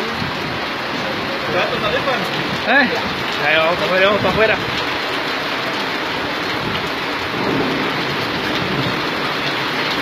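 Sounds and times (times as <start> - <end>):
flood water rushing down street: 0.0 - 10.0.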